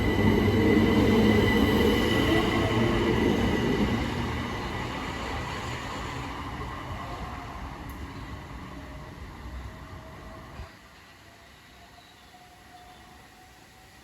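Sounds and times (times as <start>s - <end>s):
electric train departing: 0.0s - 14.0s.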